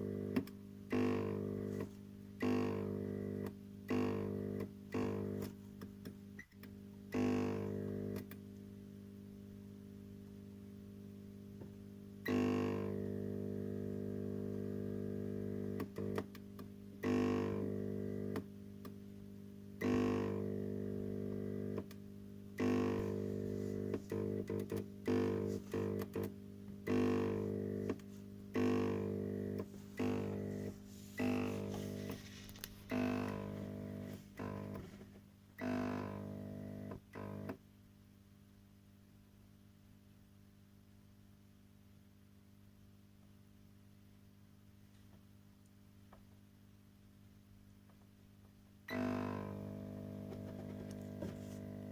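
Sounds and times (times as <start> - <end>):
fluorescent tube mains buzz: 0.0 - 51.9.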